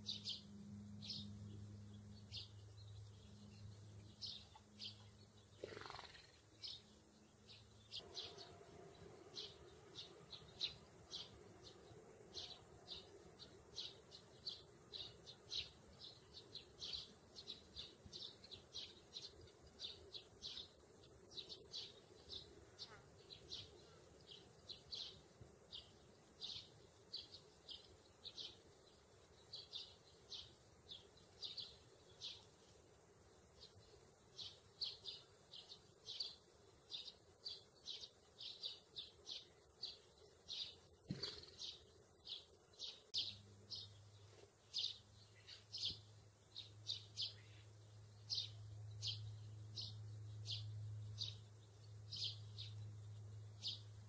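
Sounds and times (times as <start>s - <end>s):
sparrow chirping: 0.0s - 32.8s, 33.5s - 54.0s.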